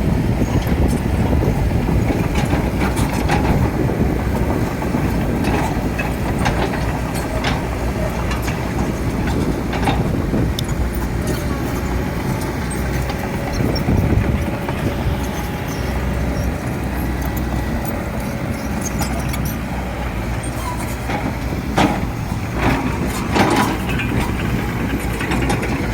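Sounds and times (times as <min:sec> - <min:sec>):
excavator engine rumble: 0:00.0 - 0:25.9.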